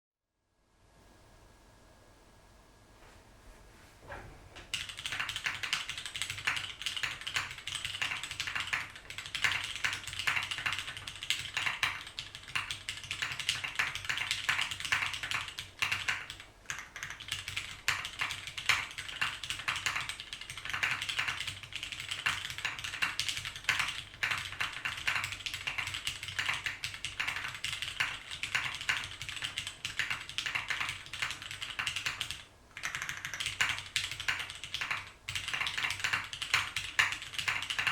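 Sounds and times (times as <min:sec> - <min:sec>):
mechanical keyboard typing: 0:04.7 - 0:37.9.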